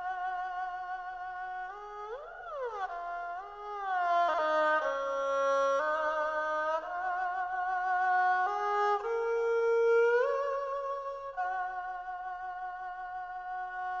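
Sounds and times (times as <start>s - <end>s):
slow violin melody: 0.0s - 14.0s.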